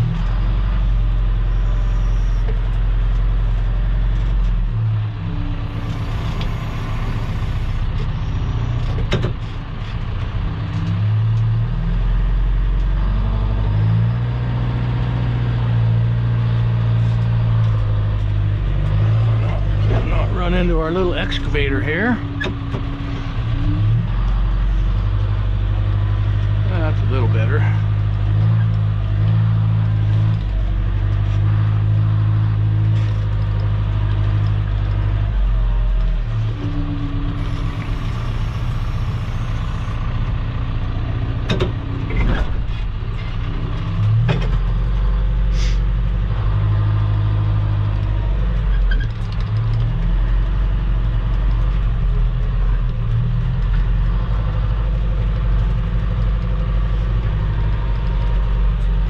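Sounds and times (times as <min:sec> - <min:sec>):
heavy equipment engine running: 0:00.0 - 0:59.0.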